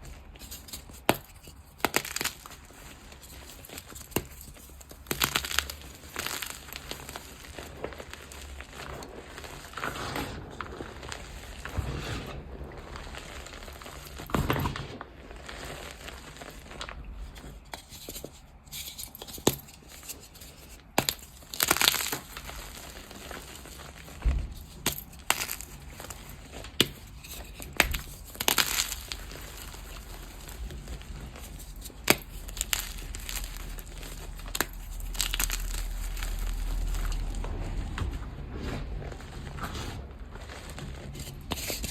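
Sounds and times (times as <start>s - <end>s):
chalk being crushed and crumbled: 0.0s - 41.9s.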